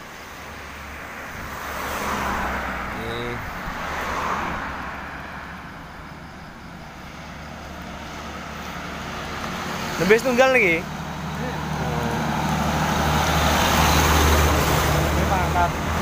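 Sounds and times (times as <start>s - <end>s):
steady low traffic rumble: 0.0s - 16.0s
vehicles passing close by: 0.0s - 16.0s.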